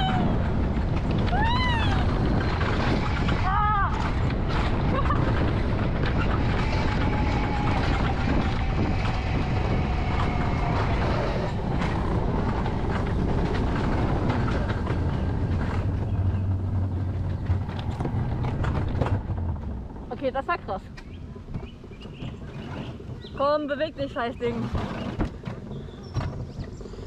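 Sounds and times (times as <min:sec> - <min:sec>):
low hum: 0:00.0 - 0:24.8
coaster wheels rumbling on rails: 0:00.0 - 0:27.0.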